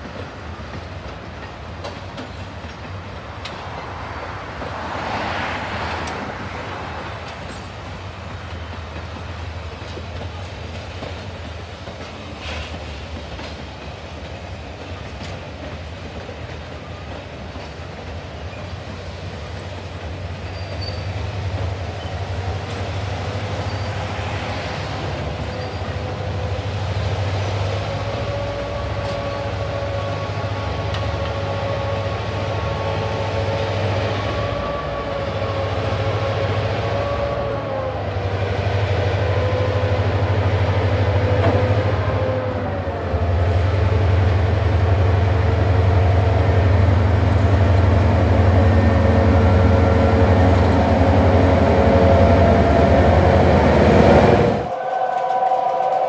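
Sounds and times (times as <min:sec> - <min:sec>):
diesel locomotive engines: 0:00.0 - 0:56.0
train rolling on steel trestle: 0:00.0 - 0:56.0.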